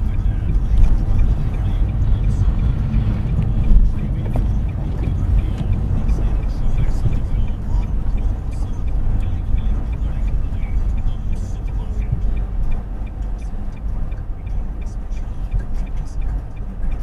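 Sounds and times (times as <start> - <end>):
car rumble on road: 0.0 - 17.0.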